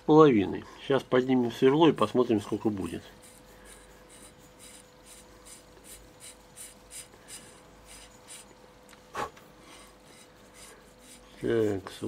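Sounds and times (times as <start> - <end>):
thin steady hum: 0.0 - 12.0
faint rhythmic scraping: 1.4 - 12.0.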